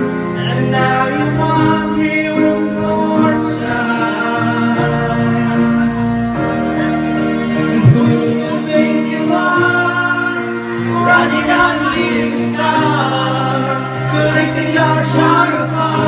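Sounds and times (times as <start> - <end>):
song with sung vocals: 0.0 - 16.0.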